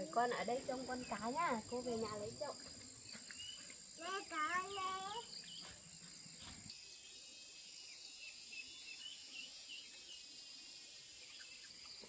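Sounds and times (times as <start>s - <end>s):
crickets chirping chorus: 0.0s - 12.0s.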